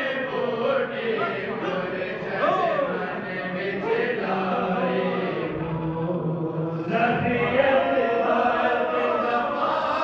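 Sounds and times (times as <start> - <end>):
men chanting together: 0.0 - 10.0.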